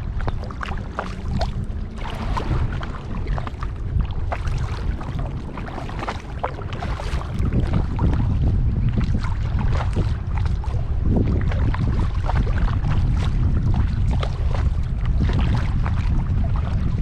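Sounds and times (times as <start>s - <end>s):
paddle splashing in water: 0.0s - 17.0s
wind on microphone: 0.0s - 17.0s.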